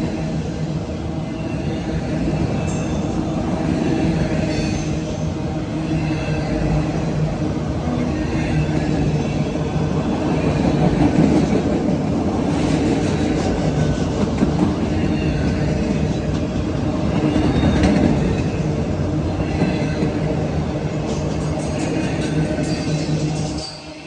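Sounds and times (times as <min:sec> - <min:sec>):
steel wheels rumbling on rails: 0:00.0 - 0:24.0.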